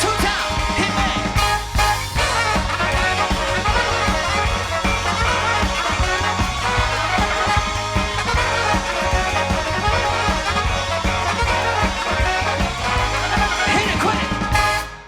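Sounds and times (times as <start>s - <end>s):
soul band playing: 0.0s - 15.0s.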